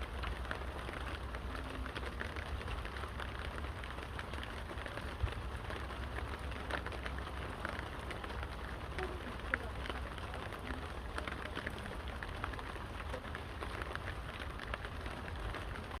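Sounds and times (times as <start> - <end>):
firewood crackling and popping: 0.0 - 16.0
steady rain falling: 0.0 - 16.0.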